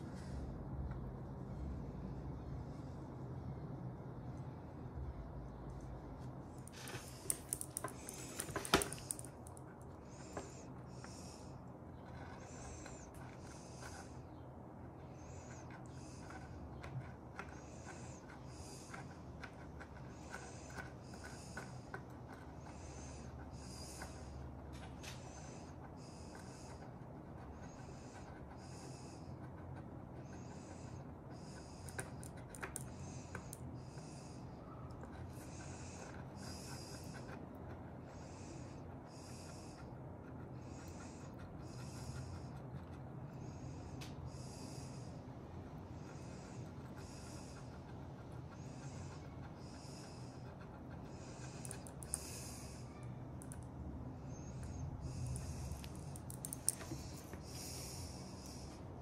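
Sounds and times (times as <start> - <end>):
nasal breathing: 6.3 - 59.0.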